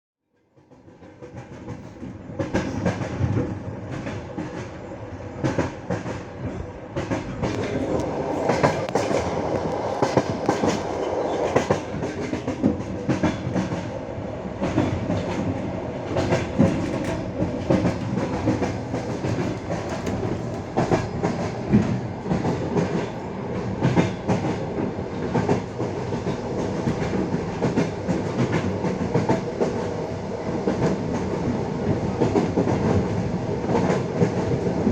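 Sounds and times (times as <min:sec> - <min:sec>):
train wheels clacking over rails: 0:00.6 - 0:34.9.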